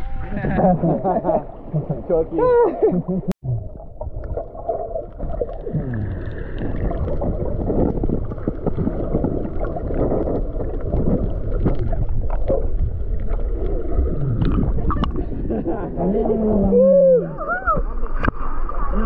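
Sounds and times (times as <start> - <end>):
muffled rushing water: 0.0 - 19.0
crackles and splashes: 3.4 - 19.0.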